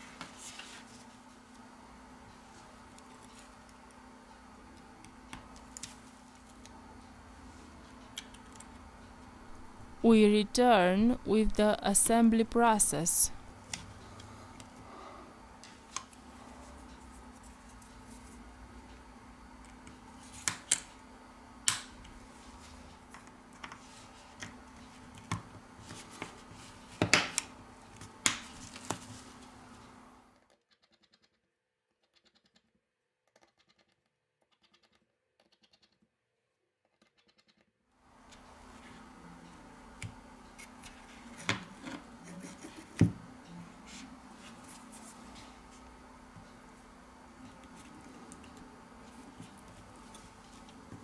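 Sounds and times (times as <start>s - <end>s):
faint steady hum: 0.0s - 30.5s, 38.0s - 51.0s.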